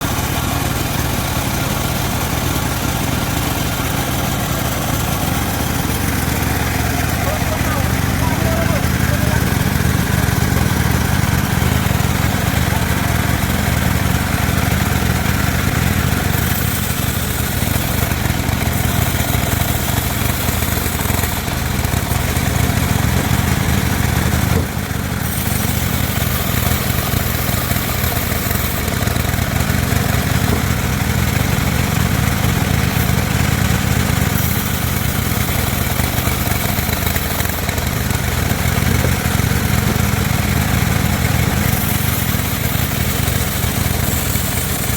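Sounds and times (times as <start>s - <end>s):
saw blade hissing through wood: 0.0s - 44.9s
sawmill engine running: 0.0s - 44.9s.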